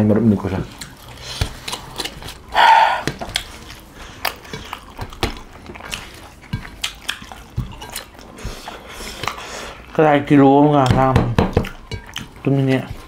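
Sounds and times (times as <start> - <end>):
chewing and mouth sounds: 0.5 - 10.1, 10.7 - 13.0.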